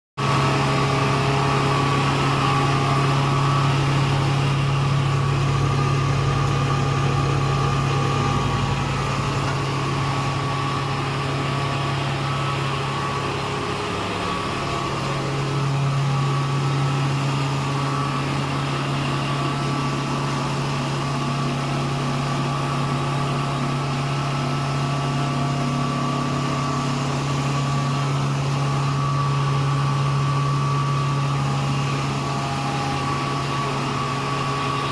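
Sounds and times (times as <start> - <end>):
pulverizer machine running: 0.2 - 34.9.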